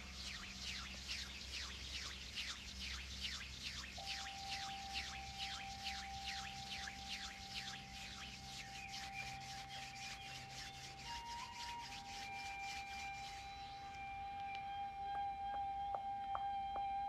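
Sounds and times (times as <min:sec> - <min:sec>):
palms rubbing together: 0:00.0 - 0:14.0
steady high tone: 0:00.0 - 0:16.2.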